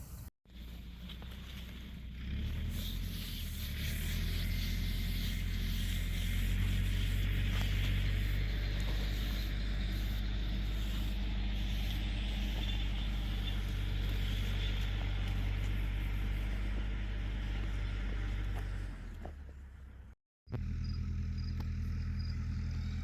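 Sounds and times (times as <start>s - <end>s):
engine droning with hiss: 0.0s - 19.3s, 20.5s - 23.0s.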